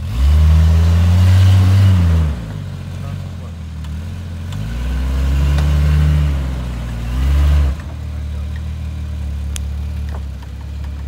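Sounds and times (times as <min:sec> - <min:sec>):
engine revving and idling: 0:00.0 - 0:11.0.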